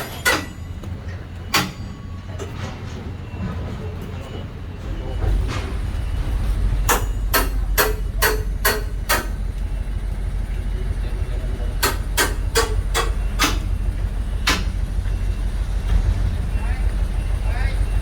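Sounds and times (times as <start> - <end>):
wheels clacking over rail joint: 0.0 - 17.1
train rumbling: 0.0 - 18.0.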